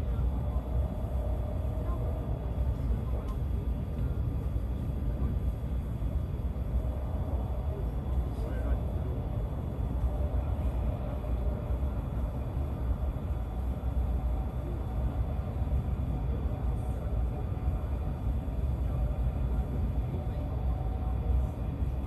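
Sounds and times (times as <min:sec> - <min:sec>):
high-speed train rumble inside car: 0:00.0 - 0:22.0.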